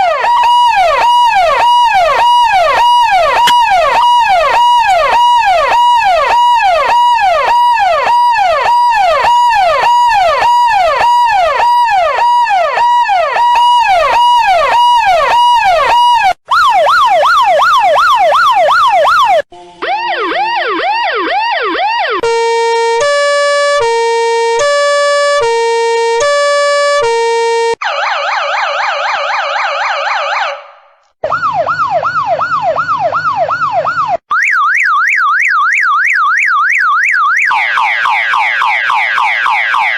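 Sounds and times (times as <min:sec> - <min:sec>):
electronic siren tones: 0:00.0 - 0:30.6, 0:31.2 - 0:39.9.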